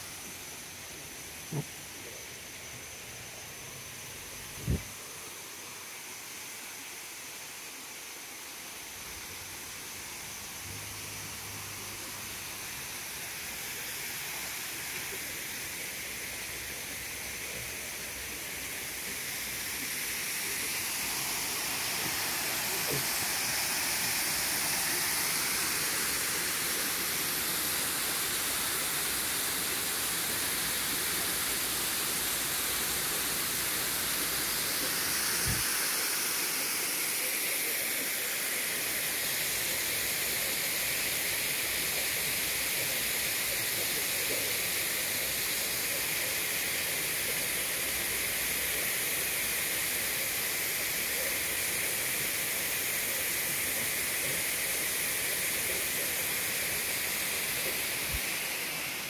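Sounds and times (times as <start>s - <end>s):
waterfall pouring into pond: 7.4s - 59.0s.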